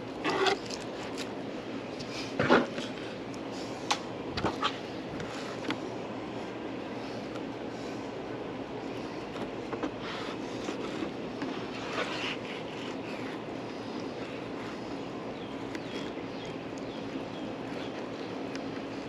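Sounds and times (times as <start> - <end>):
background hiss with low hum: 0.0 - 19.0.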